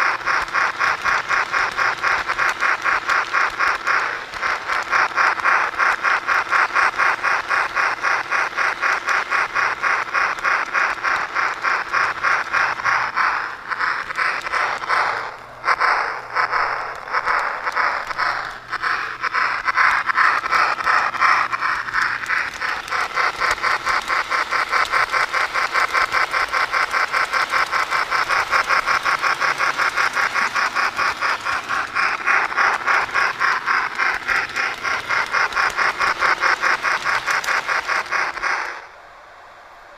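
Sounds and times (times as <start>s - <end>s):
model steam locomotive beats: 0.0s - 39.9s.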